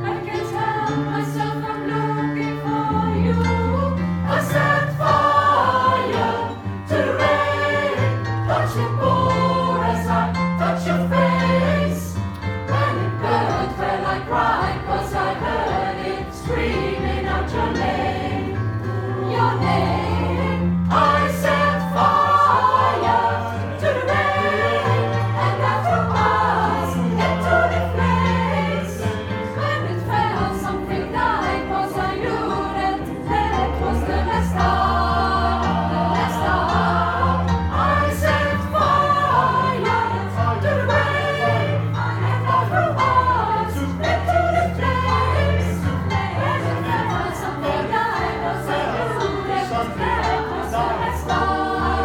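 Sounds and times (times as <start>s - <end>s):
vocal group singing in harmony: 0.0s - 52.0s.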